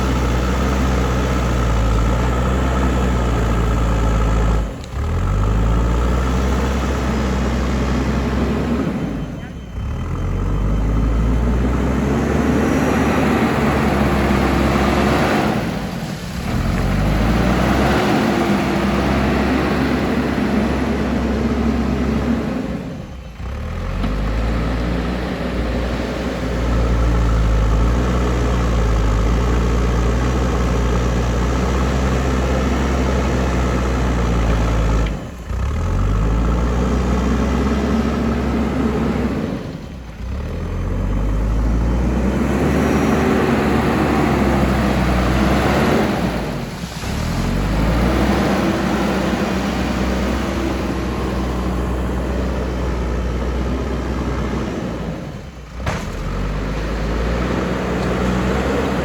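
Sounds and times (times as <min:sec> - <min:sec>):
diesel engine of digger running: 0:00.0 - 0:59.0.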